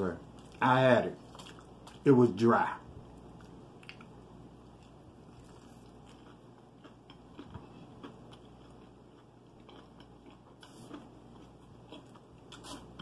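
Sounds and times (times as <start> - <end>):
faint chewing: 0.2 - 2.1, 3.2 - 13.0.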